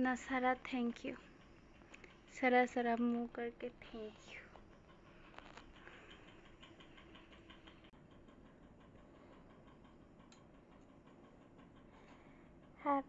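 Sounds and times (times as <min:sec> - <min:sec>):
faint rapid ticking: 0:00.0 - 0:13.0.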